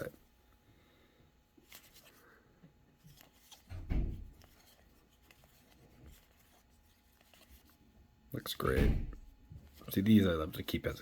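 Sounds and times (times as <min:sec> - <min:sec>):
trading cards rustling: 0:01.6 - 0:11.0.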